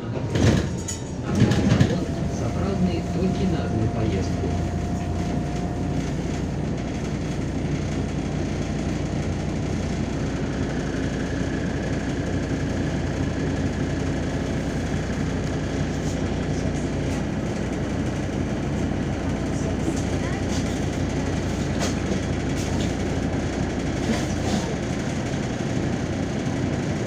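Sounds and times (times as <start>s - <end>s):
bus engine and road noise: 0.0s - 27.0s.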